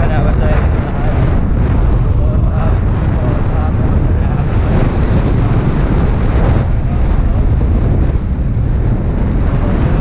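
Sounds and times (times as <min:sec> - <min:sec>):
wind noise on microphone: 0:00.0 - 0:10.0.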